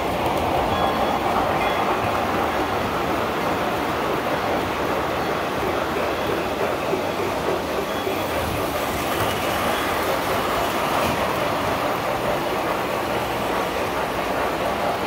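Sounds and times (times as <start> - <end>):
toy trains rolling on track: 0.0 - 15.0.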